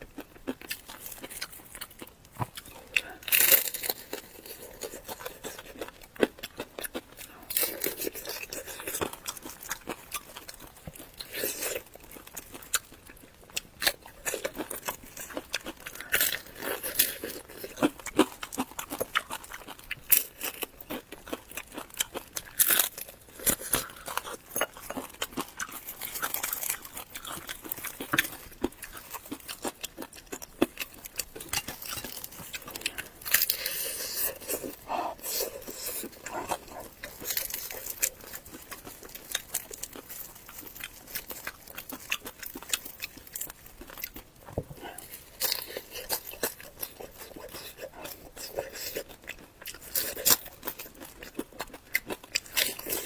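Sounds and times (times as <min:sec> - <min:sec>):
food being crunched and chewed: 0:00.0 - 0:53.0.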